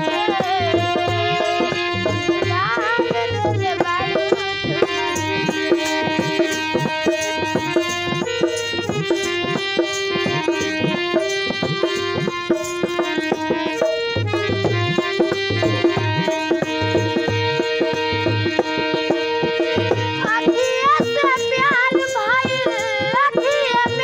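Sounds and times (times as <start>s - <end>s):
dholak drum rhythm: 0.0s - 24.0s
harmonium chords: 0.0s - 24.0s.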